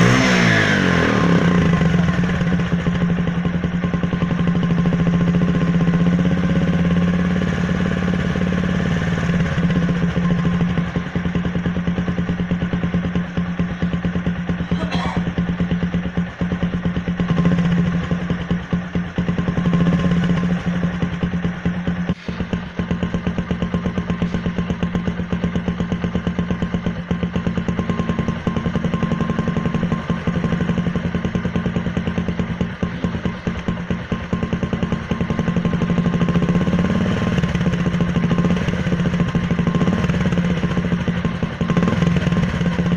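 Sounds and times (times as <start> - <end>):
motorcycle engine pulsing drone: 0.0 - 42.9.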